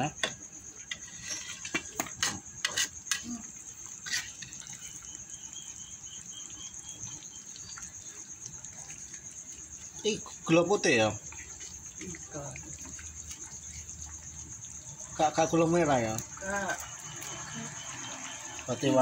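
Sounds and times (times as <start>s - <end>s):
sauce simmering hiss: 0.0s - 19.0s.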